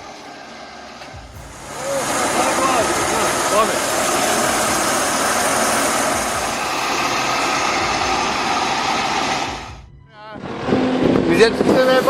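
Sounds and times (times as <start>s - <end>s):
machine engine running under load: 0.0s - 12.0s.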